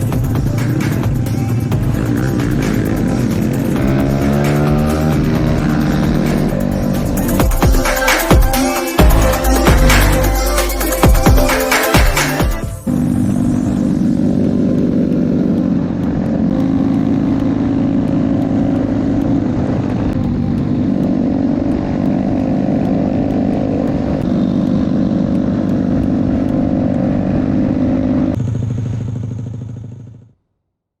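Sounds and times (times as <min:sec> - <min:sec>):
motorcycle engine running: 0:00.0 - 0:30.5.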